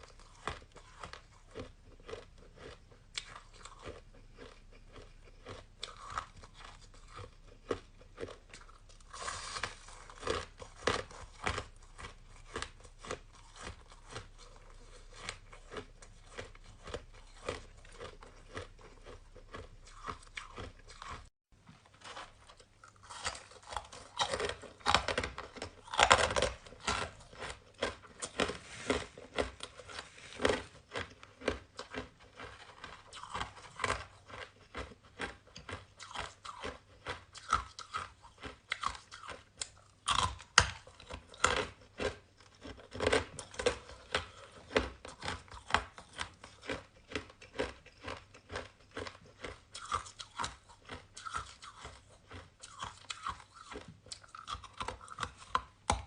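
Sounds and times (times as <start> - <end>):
person chewing crunchy shaved ice: 0.0 - 56.0.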